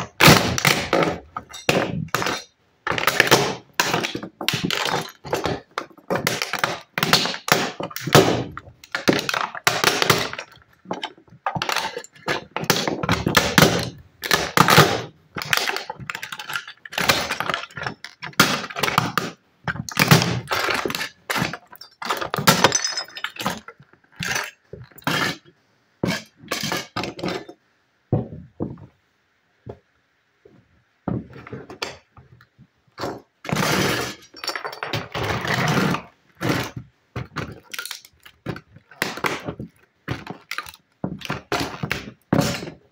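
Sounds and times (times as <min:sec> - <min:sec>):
plastic crunching and cracking: 0:00.0 - 0:25.4, 0:31.1 - 0:42.9.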